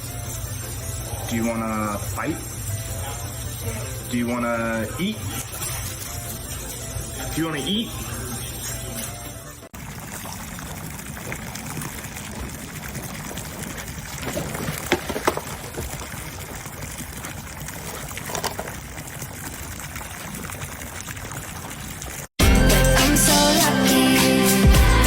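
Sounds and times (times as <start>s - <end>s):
water pouring: 0.0s - 22.3s.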